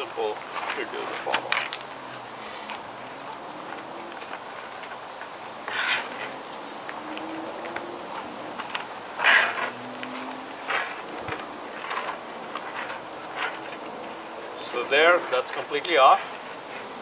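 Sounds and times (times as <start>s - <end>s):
background hiss: 0.0s - 17.0s
tire lever scraping rim: 0.4s - 17.0s.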